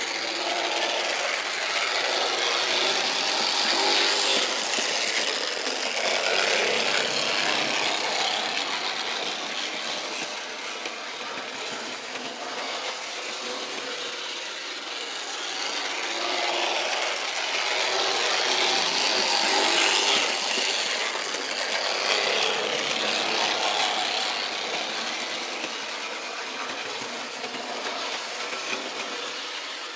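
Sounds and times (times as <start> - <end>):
model train wheels rattling on rails: 0.0 - 29.9.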